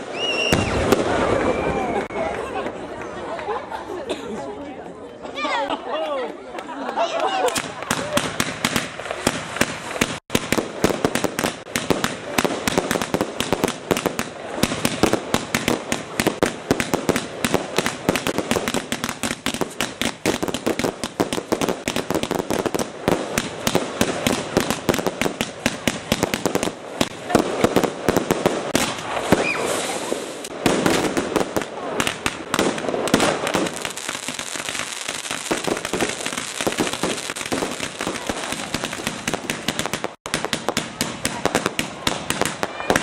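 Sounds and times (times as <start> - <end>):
fireworks bangs and crackles: 0.0 - 3.4, 7.3 - 43.0.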